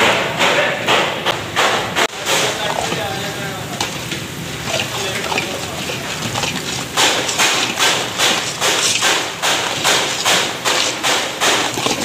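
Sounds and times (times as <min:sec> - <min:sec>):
spoon beating egg in pan: 0:02.2 - 0:12.0.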